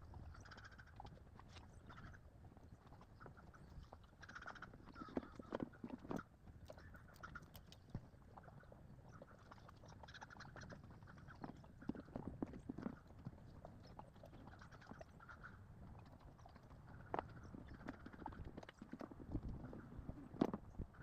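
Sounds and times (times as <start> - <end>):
horse hooves clopping: 0.0 - 21.0.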